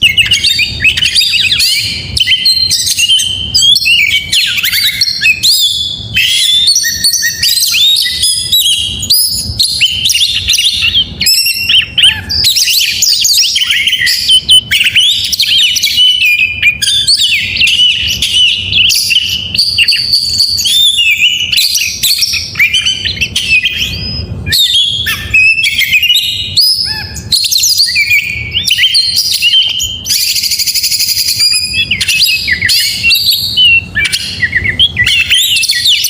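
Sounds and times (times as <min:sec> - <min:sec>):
magpie-robin singing: 0:00.0 - 0:36.0.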